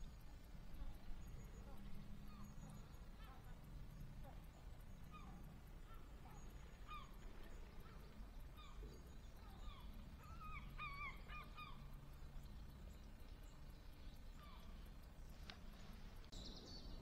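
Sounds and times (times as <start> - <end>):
distant waterbirds calling: 0.0 - 17.0.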